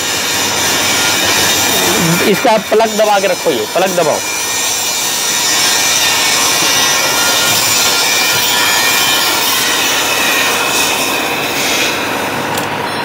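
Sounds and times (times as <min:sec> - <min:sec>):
electric hoist motor whirring: 0:00.0 - 0:13.0.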